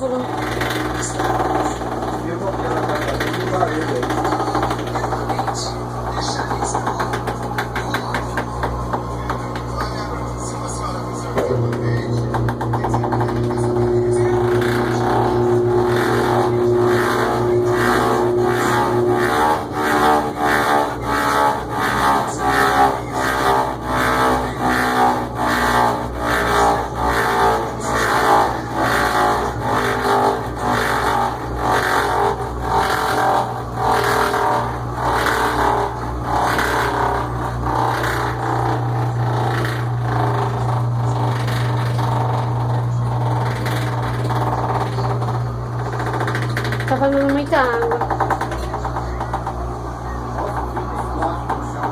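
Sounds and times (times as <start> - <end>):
washing machine motor hum: 0.0 - 51.9
washing machine pulsing churn: 0.0 - 51.9.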